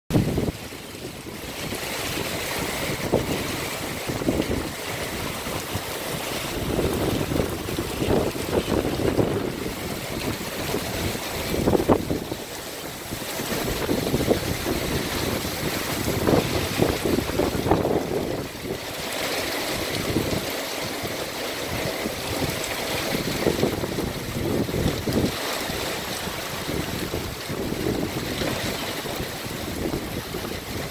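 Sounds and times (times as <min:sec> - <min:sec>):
heavy rain pouring: 0:00.1 - 0:30.9
wind buffeting microphone: 0:00.1 - 0:30.9.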